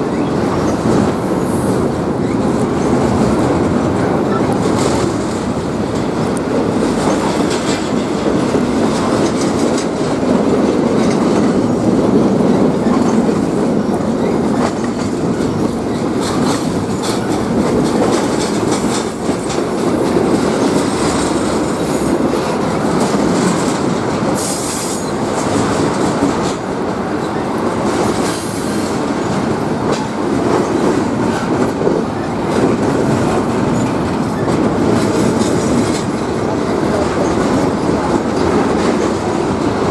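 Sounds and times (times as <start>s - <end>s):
train rumbling along track: 0.0s - 39.9s
wheels clicking over rails: 0.0s - 39.9s.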